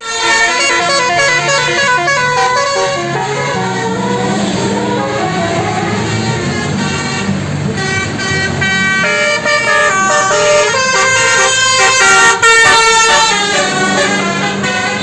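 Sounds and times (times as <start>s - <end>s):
bus engine running: 0.0s - 15.0s
musical bus horn melody: 0.0s - 15.0s.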